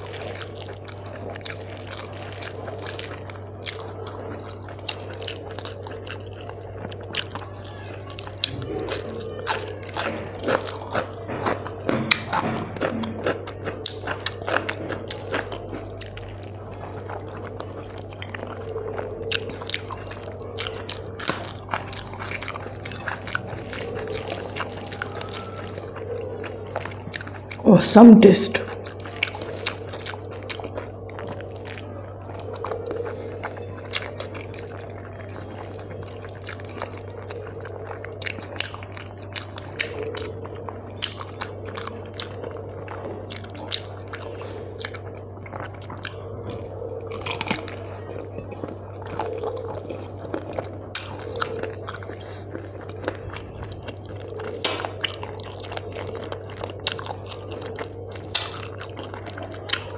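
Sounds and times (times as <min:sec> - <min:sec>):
low hum: 0:00.0 - 0:59.9
wet chewing and lip smacks: 0:00.0 - 0:59.9.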